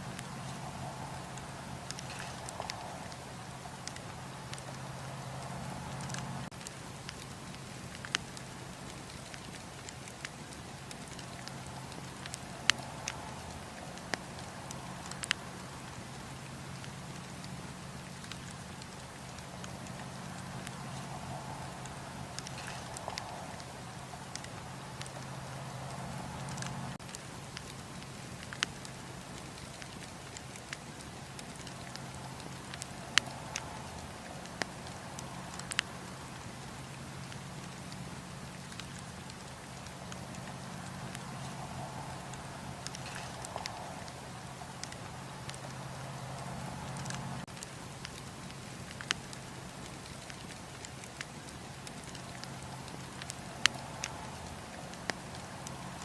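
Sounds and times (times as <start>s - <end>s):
fire hiss: 0.0s - 56.0s
wood crackling and popping: 0.0s - 56.0s.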